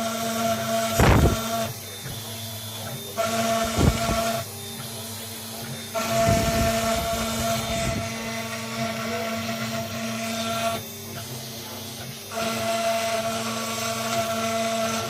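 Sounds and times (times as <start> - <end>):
router bit engraving plywood: 0.0 - 15.0
router spindle whine: 0.0 - 15.0.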